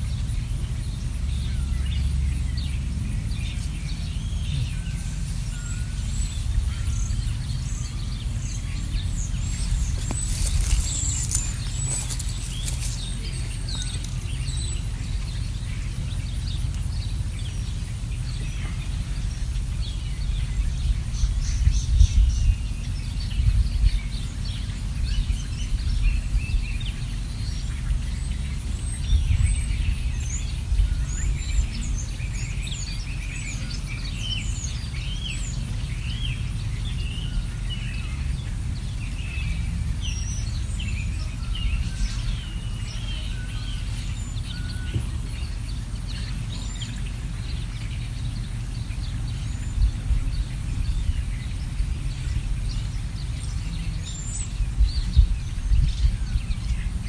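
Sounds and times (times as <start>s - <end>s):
birds chirping and whistling: 0.0s - 57.0s
steady low rumble: 0.0s - 57.0s.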